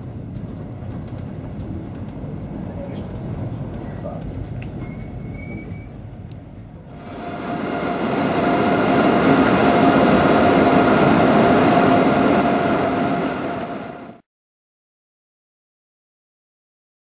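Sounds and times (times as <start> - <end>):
train rail rumble: 0.0 - 14.2.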